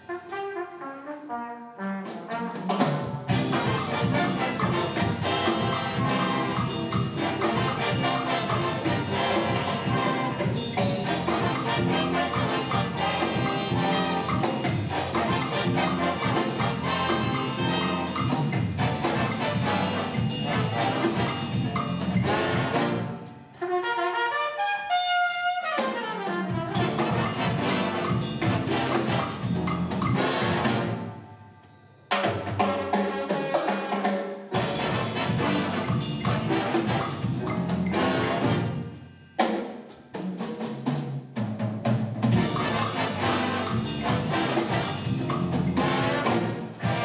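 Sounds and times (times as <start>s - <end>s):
jazz big band playing: 0.0s - 47.0s.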